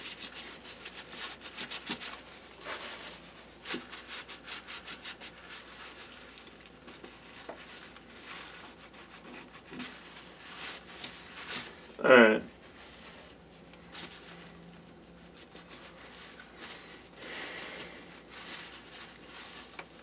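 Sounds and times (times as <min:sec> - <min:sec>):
paper towel rubbing: 0:00.0 - 0:11.9, 0:12.5 - 0:20.0.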